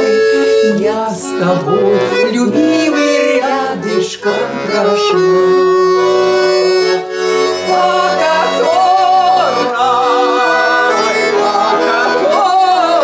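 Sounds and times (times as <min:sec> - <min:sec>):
button accordion playing: 0:00.0 - 0:13.0.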